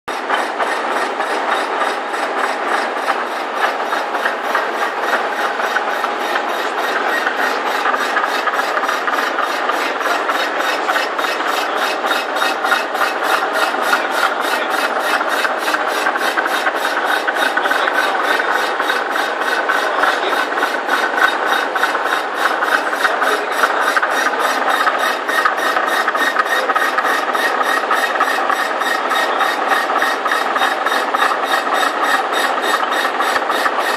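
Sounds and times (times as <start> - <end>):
high ringing cutter tones: 0.1 - 33.9
milling machine cutting metal: 0.1 - 33.9.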